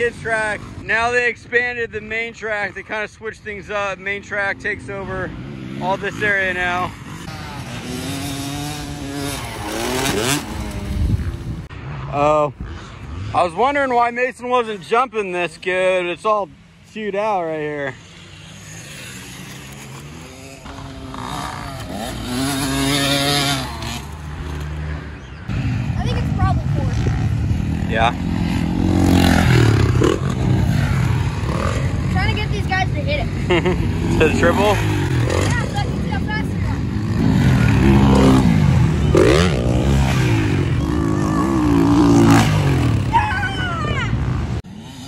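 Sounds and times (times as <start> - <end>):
motocross bikes accelerating: 0.0 - 45.0.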